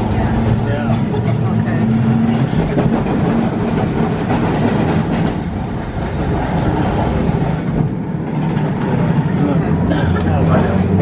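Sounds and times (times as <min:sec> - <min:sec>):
tram wheels rumbling on track: 0:00.0 - 0:11.0.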